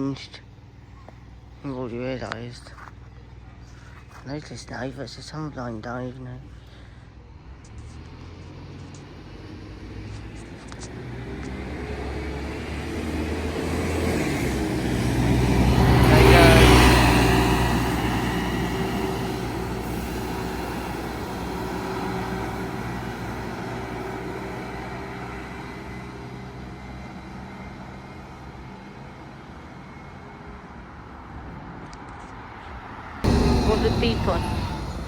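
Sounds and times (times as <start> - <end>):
bus engine passing: 0.5 - 35.0.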